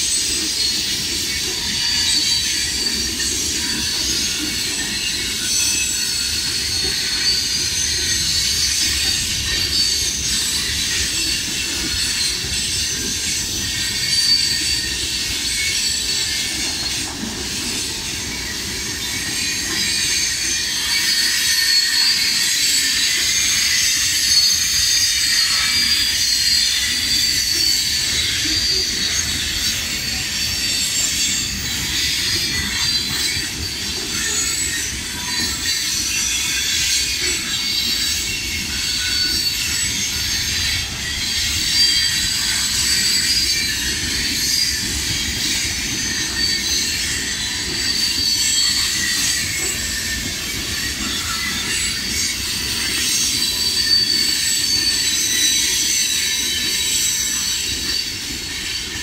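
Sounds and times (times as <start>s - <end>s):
high-pitched wheel squeal: 0.0s - 59.0s
steel wheels rumbling on rail: 0.0s - 59.0s.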